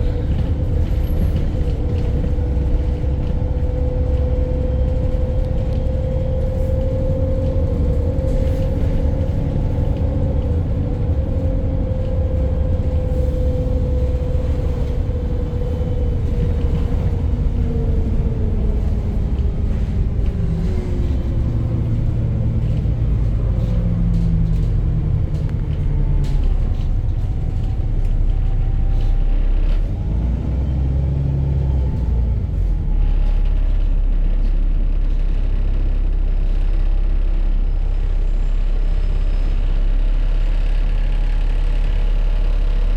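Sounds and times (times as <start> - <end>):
bus diesel engine knocking: 0.0 - 42.9.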